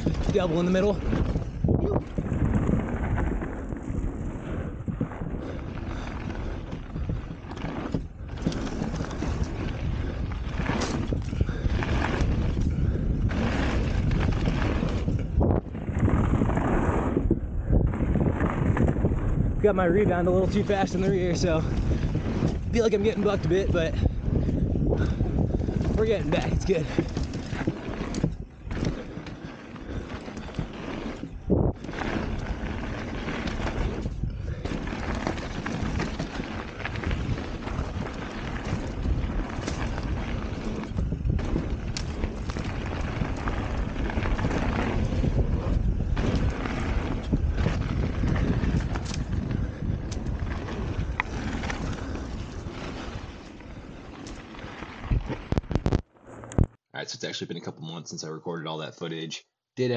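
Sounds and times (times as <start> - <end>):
bike rattling and knocking: 0.0 - 56.1
bike tyres rolling over dirt: 0.0 - 56.8
wind buffeting microphone: 0.0 - 56.8.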